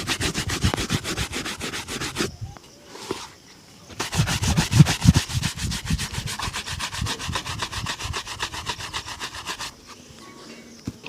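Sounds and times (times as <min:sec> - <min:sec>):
shoe rubbing strokes: 0:00.0 - 0:10.5.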